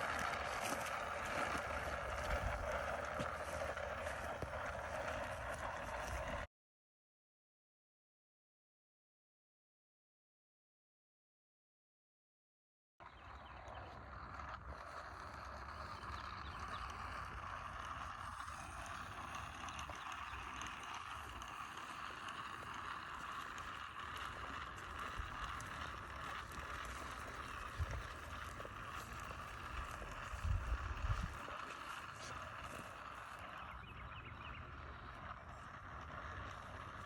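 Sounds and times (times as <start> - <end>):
seed spreader whirring: 0.0 - 6.5, 13.0 - 37.0.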